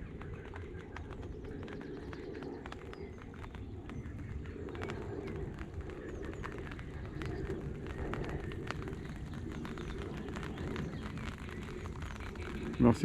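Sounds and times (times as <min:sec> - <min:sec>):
raindrops ticking: 0:00.0 - 0:13.0
steady low rumble: 0:00.0 - 0:13.0.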